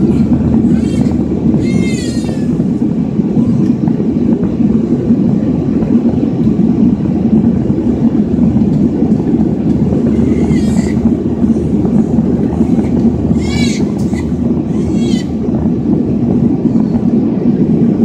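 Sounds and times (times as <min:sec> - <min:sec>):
jet engine roar in cabin: 0:00.0 - 0:18.0
rushing air: 0:00.0 - 0:18.0.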